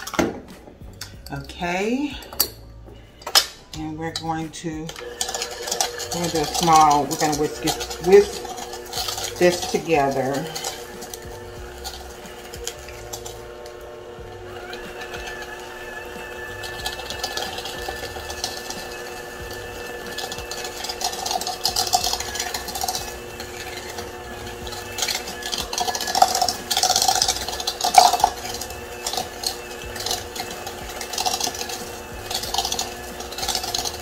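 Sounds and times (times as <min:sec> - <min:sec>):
beaters clattering against bowl: 0:03.2 - 0:13.9, 0:14.6 - 0:34.0
hand mixer motor whine: 0:03.7 - 0:34.0.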